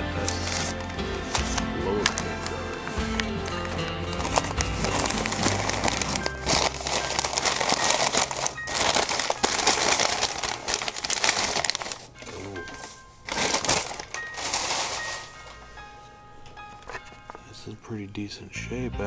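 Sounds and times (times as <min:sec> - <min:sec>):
paper wrapping crinkling: 0:00.0 - 0:17.8.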